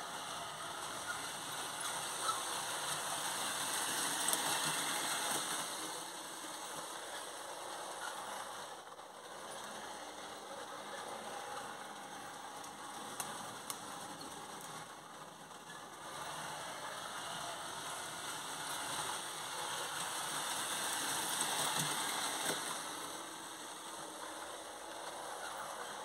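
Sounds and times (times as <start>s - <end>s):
model trains rattling on rails: 0.0s - 26.0s.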